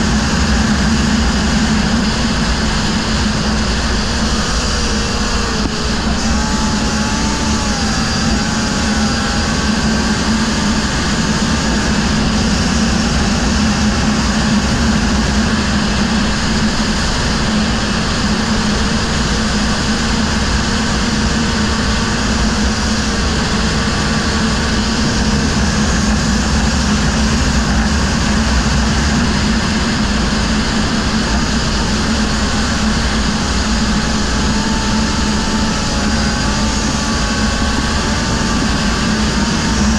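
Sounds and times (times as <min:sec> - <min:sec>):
faint wavering whines: 0:00.0 - 0:39.9
quad engine running: 0:00.0 - 0:39.9
rush of wind noise: 0:00.0 - 0:39.9.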